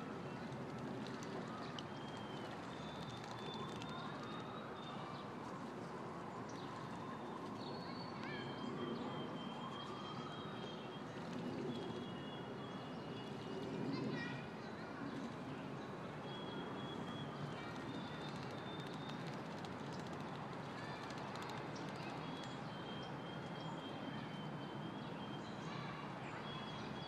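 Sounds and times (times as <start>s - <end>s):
distant city noise: 0.0s - 27.0s.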